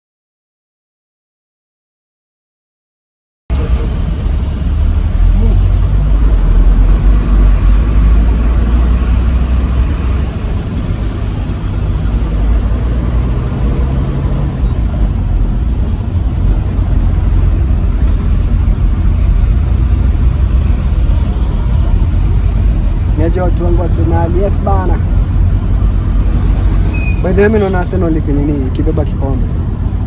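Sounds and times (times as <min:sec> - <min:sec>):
truck engine and road rumble: 0:03.5 - 0:30.0.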